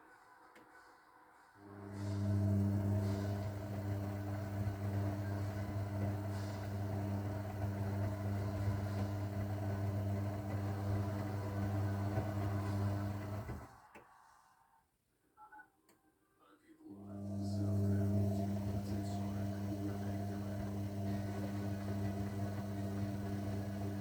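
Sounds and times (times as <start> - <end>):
washing machine electric hum: 1.6 - 13.9, 16.9 - 24.0.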